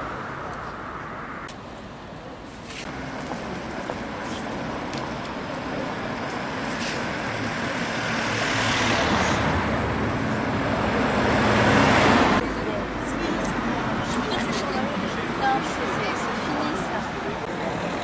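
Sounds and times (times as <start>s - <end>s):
cars driving past: 2.8s - 18.0s.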